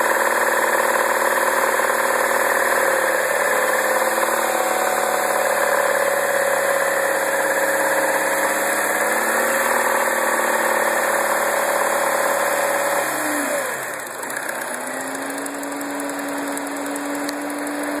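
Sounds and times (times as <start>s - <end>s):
car engine running with rattle: 0.0s - 18.0s.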